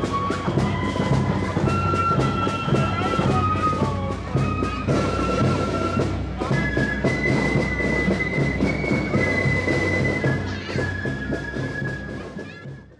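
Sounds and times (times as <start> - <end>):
marching band playing: 0.0 - 12.9.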